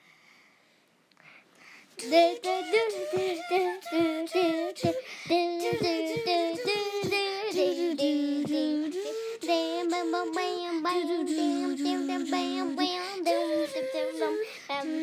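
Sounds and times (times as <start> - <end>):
high voice singing: 2.0 - 15.0.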